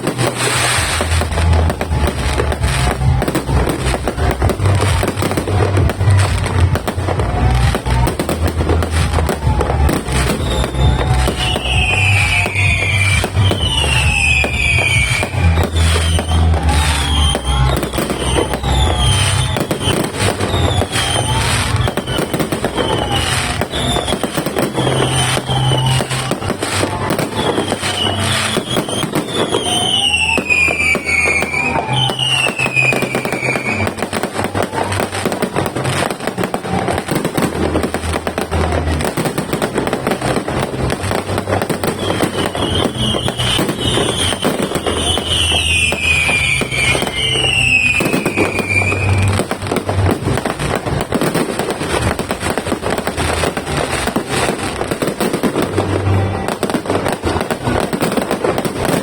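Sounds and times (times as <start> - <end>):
fireworks barrage: 0.0 - 59.0.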